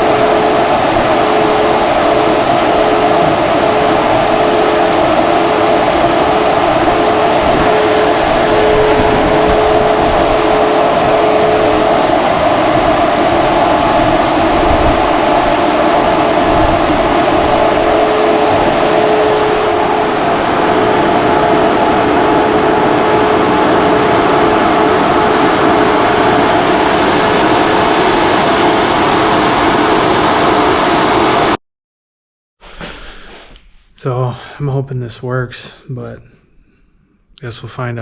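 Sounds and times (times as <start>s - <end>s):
electric fans whooshing: 0.0s - 31.6s, 32.6s - 36.1s.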